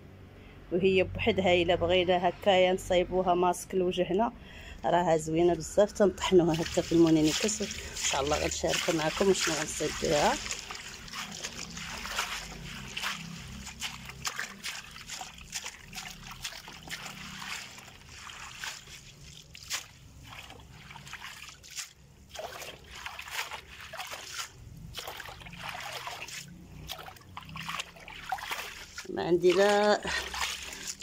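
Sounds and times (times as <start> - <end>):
water trickling and splashing: 6.2 - 31.0.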